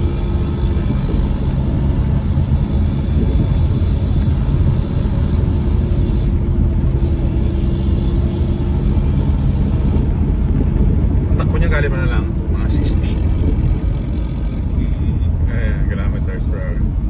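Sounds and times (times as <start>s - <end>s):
car engine hum and road rumble: 0.0s - 17.0s.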